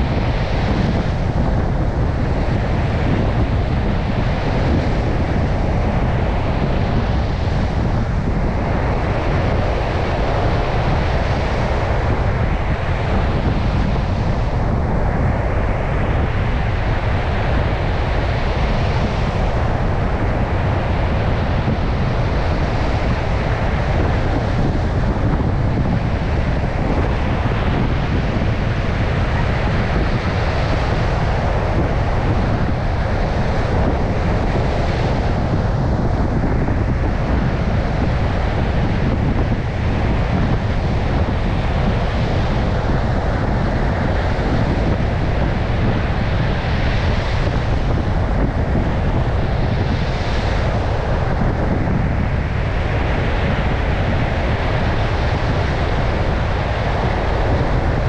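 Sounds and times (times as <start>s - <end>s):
surf breaking on a beach: 0.0s - 58.0s
wind rumbling against microphone: 0.0s - 58.0s.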